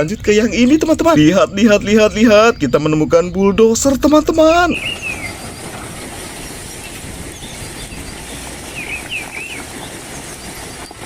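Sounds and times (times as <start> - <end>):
outdoor background noise: 0.0 - 11.0
small bird chirping: 0.0 - 11.0.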